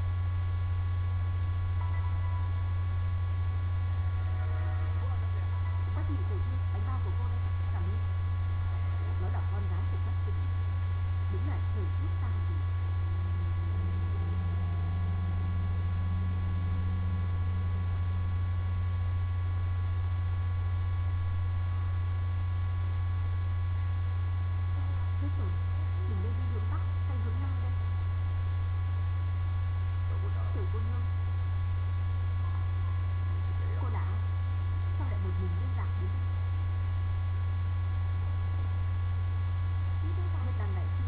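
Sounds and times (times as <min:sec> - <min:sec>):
faint high-pitched tones: 0:00.0 - 0:41.0
low electrical hum: 0:00.0 - 0:41.0.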